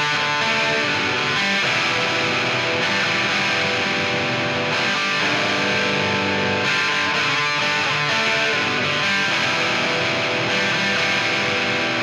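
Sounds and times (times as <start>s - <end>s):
punk band with distorted guitar: 0.0s - 12.0s.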